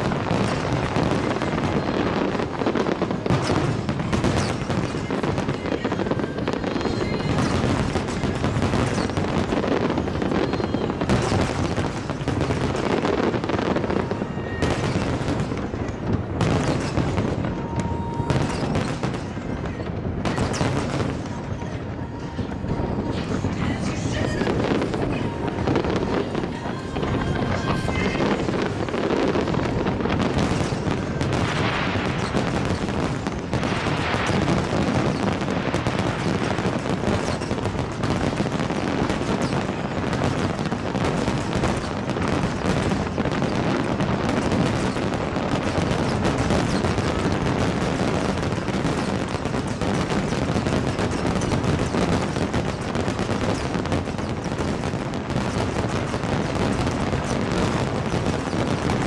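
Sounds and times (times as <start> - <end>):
deep fireworks booms: 0.0 - 59.0
fireworks cracks and bangs: 0.0 - 59.0.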